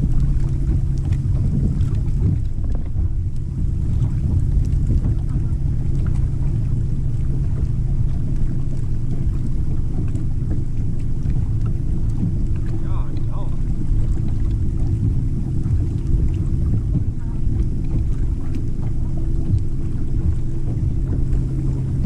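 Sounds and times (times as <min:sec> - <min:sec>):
faint steady hum: 0:00.0 - 0:22.0
water lapping against boat hull: 0:00.0 - 0:22.0
wind buffeting microphone: 0:00.0 - 0:22.0.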